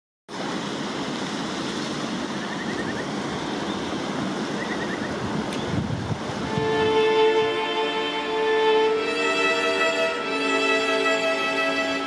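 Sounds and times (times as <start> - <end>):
river rushing: 0.3 - 12.0.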